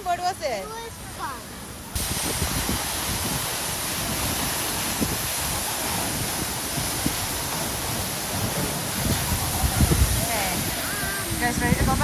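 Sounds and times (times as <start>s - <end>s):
waterfall roaring: 0.0s - 12.0s
wind buffeting microphone: 1.9s - 12.0s.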